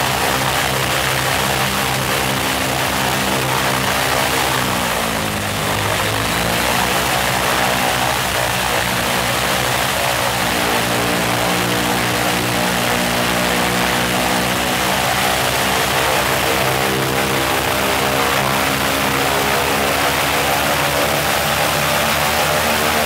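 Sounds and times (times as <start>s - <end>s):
radial aircraft engine running: 0.0s - 23.0s.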